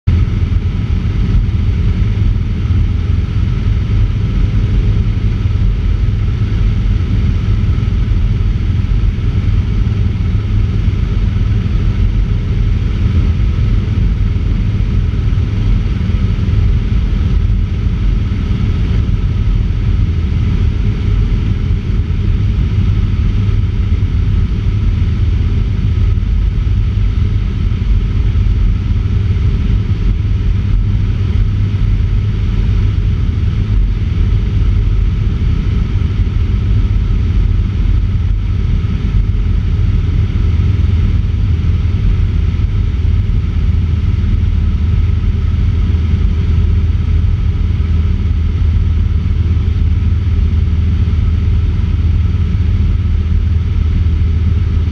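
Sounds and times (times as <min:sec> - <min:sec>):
light aircraft engine droning: 0:00.1 - 0:54.9
wind rushing on microphone: 0:00.1 - 0:54.9.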